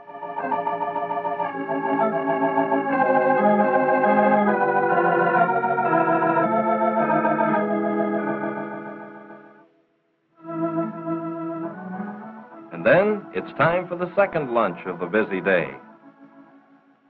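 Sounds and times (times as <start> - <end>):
organ music: 0.0 - 17.0.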